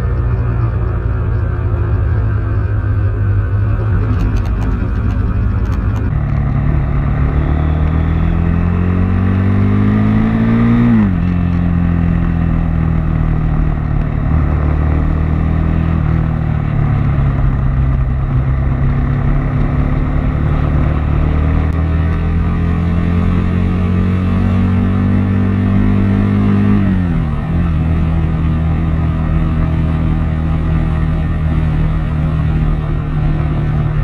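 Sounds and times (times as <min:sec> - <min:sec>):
motorcycle engine revving: 0:00.0 - 0:34.0
wind and road noise: 0:00.0 - 0:34.0.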